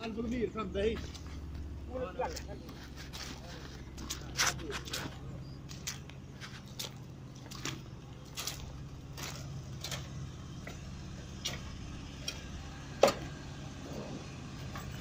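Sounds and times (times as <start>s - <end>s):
concrete pump engine drone: 0.0s - 15.0s.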